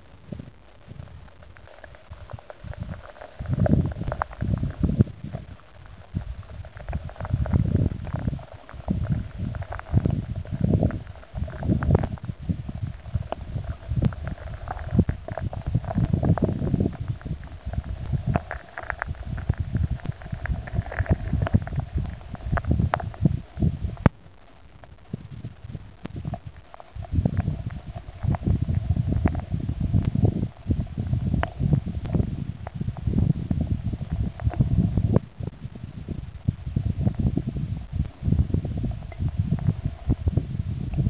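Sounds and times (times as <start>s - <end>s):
underwater rumble of moving water: 0.0s - 41.0s.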